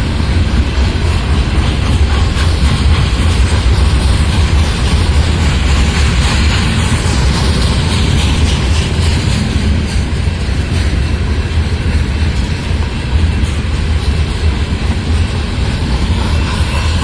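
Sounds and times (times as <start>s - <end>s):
freight train rumble: 0.0s - 17.0s
wheels clattering on rail joints: 0.0s - 17.0s.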